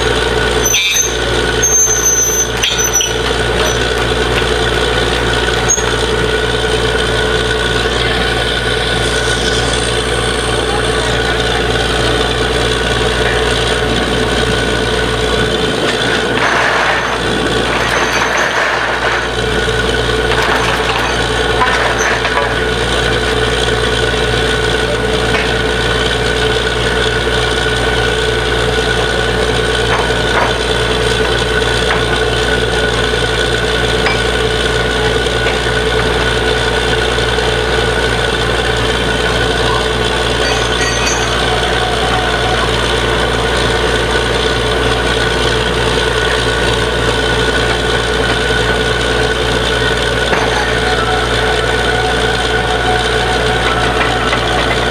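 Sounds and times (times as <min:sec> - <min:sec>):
drilling rig engine hum: 0:00.0 - 0:54.9
steady whine: 0:00.0 - 0:54.9.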